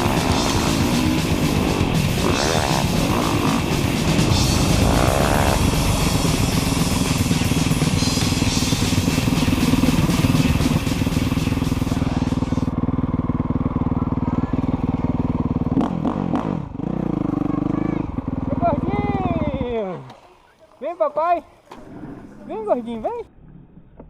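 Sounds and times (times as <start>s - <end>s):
motocross motorcycle engine running: 0.0s - 20.0s.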